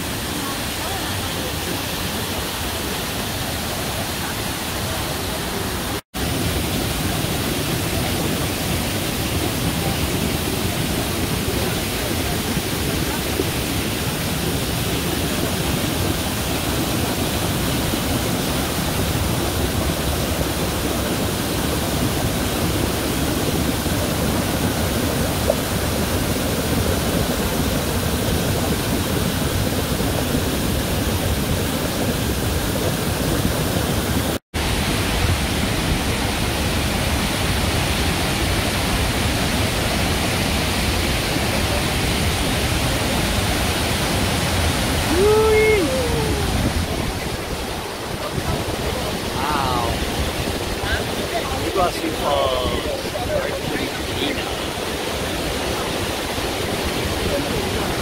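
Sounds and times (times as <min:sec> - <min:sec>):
rush of falling water: 0:00.0 - 0:58.0.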